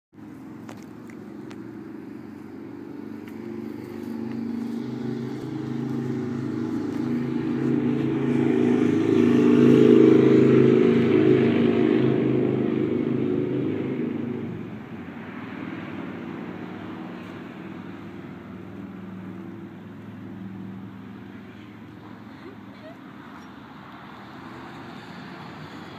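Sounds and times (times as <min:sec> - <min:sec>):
vehicle engine humming: 0:00.1 - 0:25.9.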